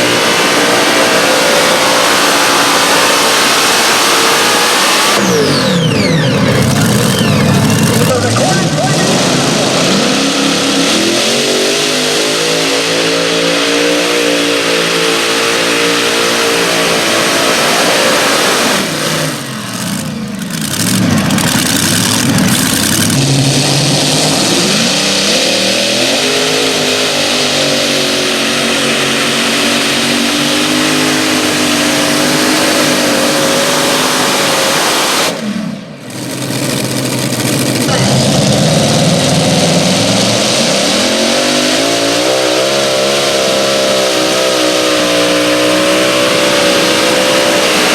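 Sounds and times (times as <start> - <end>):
tractor engine revving under load: 0.0 - 47.9.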